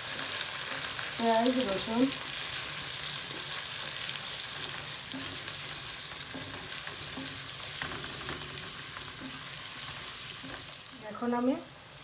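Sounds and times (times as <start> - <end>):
onion and garlic sizzling in oil: 0.0 - 12.0.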